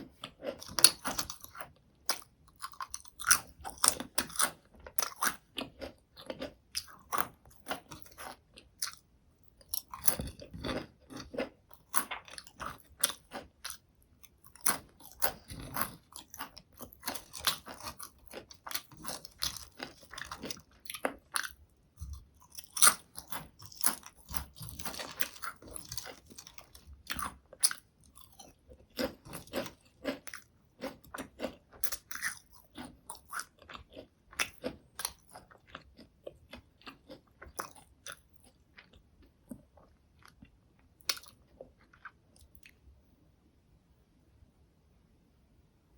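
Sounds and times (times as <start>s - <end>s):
potato chips crunching: 0.0s - 9.0s, 9.6s - 13.8s, 14.4s - 39.0s.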